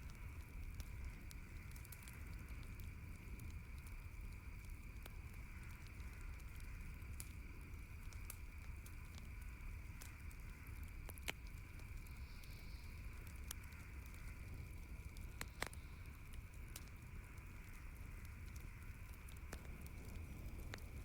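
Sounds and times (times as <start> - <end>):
campfire crackling: 0.0 - 21.0
sharp pops of fire: 0.0 - 21.0.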